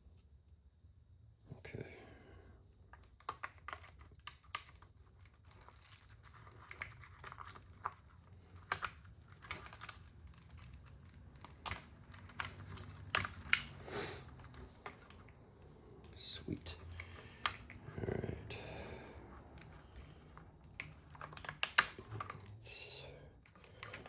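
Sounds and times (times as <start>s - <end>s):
small parts and tools clicking: 2.8s - 17.9s, 18.5s - 22.8s, 23.4s - 24.0s.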